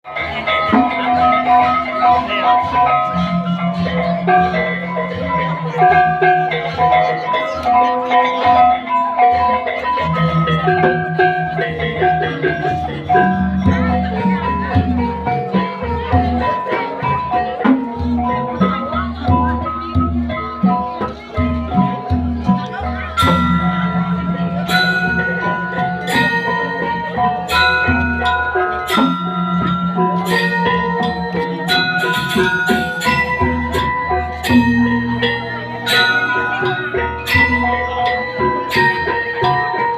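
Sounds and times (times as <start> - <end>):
gamelan metallophones ringing: 0.0 - 39.9.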